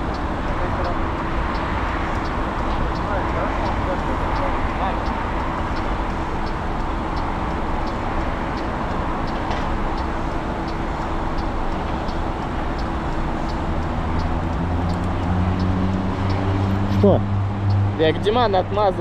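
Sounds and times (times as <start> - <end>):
combustion engine low drone: 0.0 - 19.0
light repeating tick: 0.0 - 19.0
wind and traffic noise: 0.0 - 19.0.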